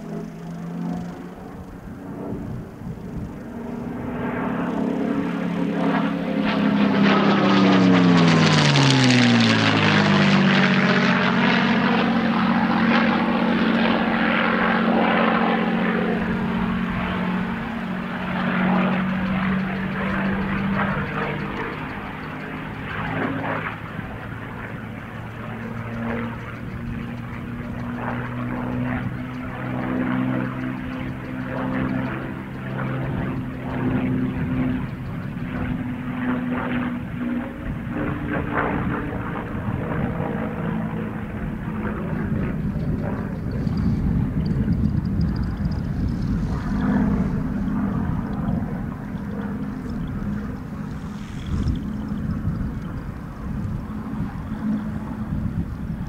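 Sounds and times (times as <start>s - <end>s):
propeller plane engine passing: 0.0s - 56.0s.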